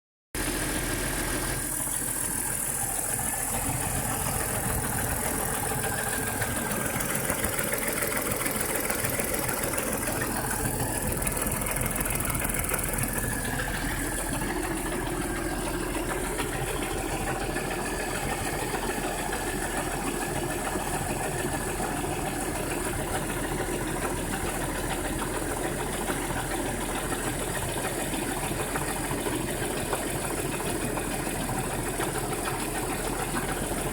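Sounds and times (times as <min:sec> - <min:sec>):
car engine running: 0:00.4 - 0:33.9
engine knocking: 0:00.4 - 0:33.9.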